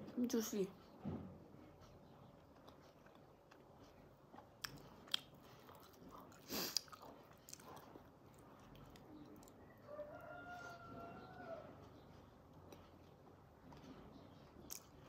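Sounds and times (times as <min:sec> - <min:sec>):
quiet chewing and biting: 0:01.8 - 0:09.9, 0:10.6 - 0:15.0.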